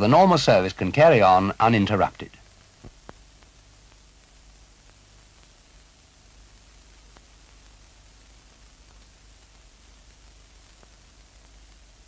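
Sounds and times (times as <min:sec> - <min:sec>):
film soundtrack hiss: 0:00.0 - 0:12.0
faint clicks and crackles: 0:02.3 - 0:12.0.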